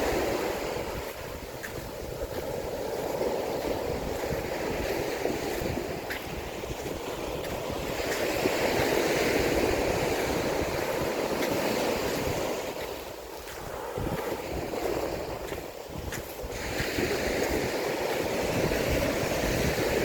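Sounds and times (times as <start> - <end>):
waves breaking on shore: 0.0 - 20.0
wind buffeting microphone: 0.0 - 20.0.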